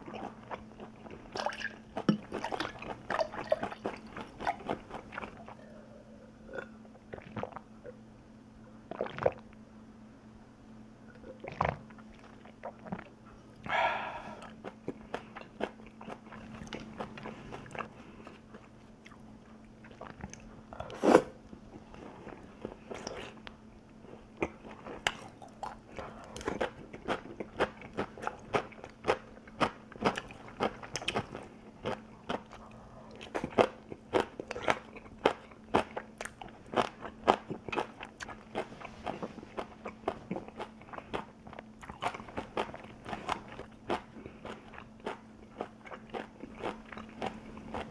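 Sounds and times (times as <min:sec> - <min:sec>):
chewing crunchy food: 0:00.0 - 0:08.0, 0:08.9 - 0:09.6, 0:11.1 - 0:47.9
faint steady hum: 0:00.0 - 0:47.9.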